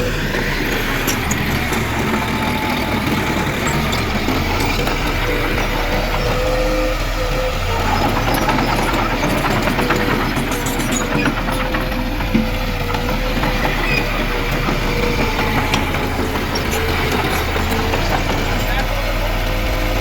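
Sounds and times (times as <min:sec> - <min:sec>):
constant machine whine: 0:00.0 - 0:20.0
diesel machinery engine: 0:00.0 - 0:20.0.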